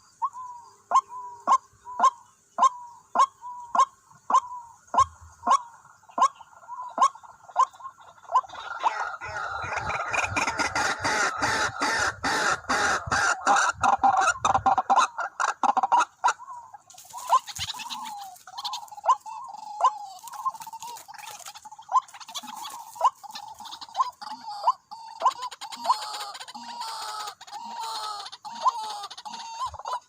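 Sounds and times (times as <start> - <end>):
short sharp clucking calls: 0.0 - 30.0
waterhens calling: 0.0 - 30.0.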